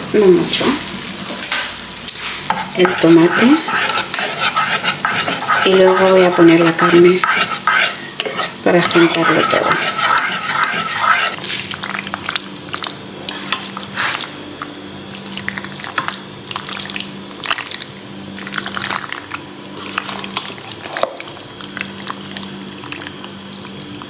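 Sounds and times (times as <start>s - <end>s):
steady low hum: 1.9s - 24.0s
wet stirring and scraping: 2.1s - 24.0s.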